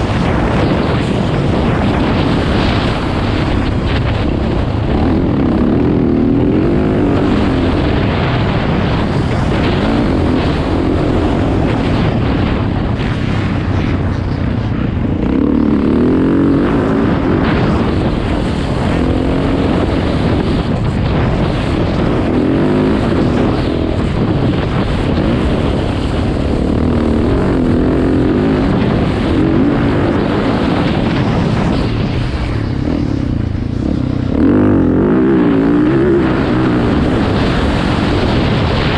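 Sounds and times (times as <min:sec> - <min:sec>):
dirt bike engine revving: 0:00.0 - 0:38.9
wind noise on microphone: 0:00.0 - 0:38.9.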